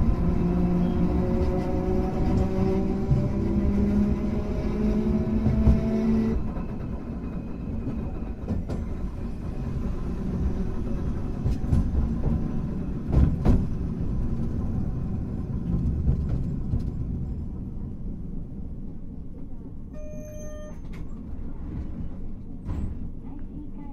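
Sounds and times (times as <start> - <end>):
tram motor and gear whine: 0.0 - 23.2
wheels rumbling on rail: 0.0 - 23.9.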